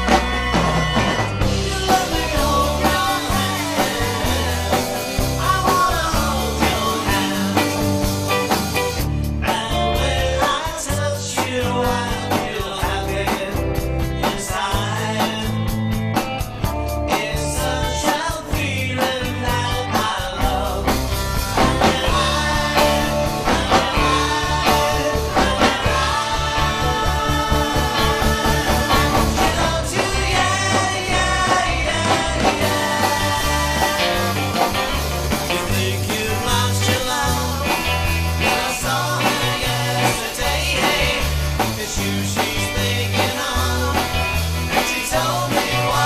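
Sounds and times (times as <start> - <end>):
person singing: 0.0 - 15.7, 17.1 - 46.0
rock and roll band playing: 0.0 - 46.0.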